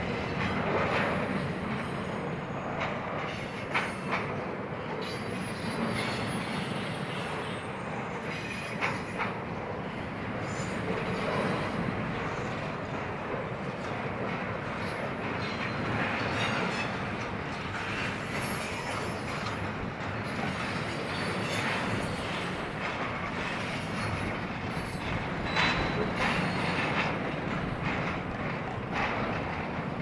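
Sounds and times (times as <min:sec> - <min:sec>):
freight train wheels rumbling on rail: 0:00.0 - 0:30.0.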